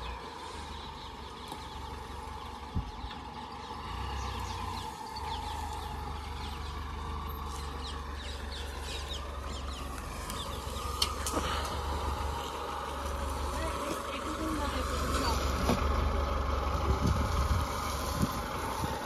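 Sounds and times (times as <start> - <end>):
birds chirping: 0.0 - 19.0
car engine idling: 0.0 - 19.0.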